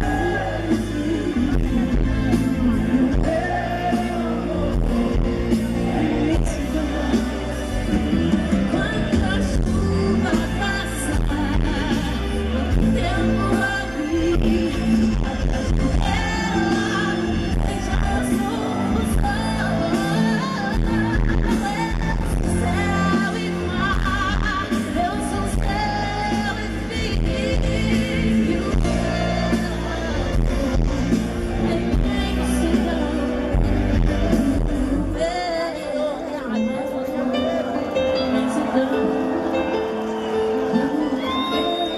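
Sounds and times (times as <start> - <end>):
pop band playing: 0.0 - 41.9
woman singing through sound system: 0.0 - 41.9.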